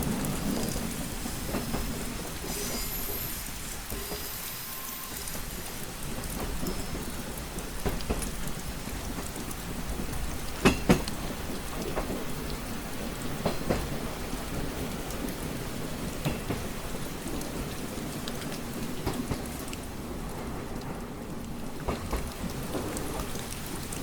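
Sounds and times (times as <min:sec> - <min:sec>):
rain pattering on window: 0:00.0 - 0:24.0.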